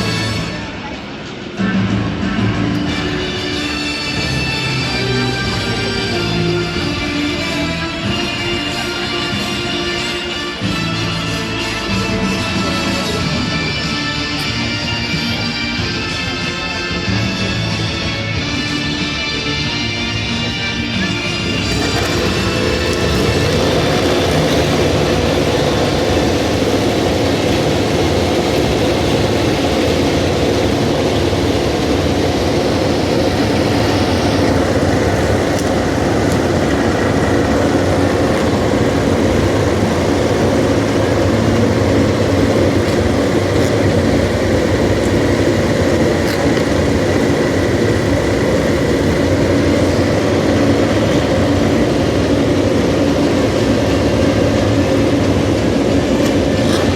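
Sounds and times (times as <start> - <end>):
racing motorcycle engines droning: 0.0 - 56.9.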